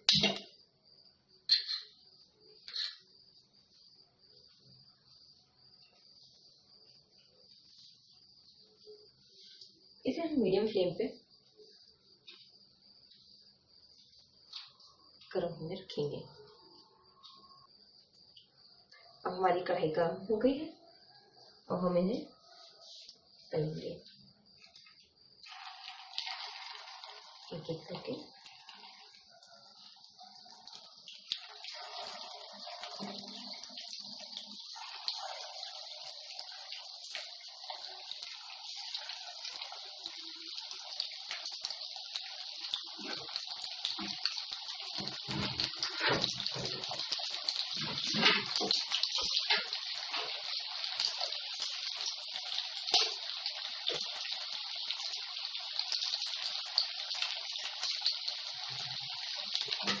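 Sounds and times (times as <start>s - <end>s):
food deep-frying in oil: 0.0s - 60.0s.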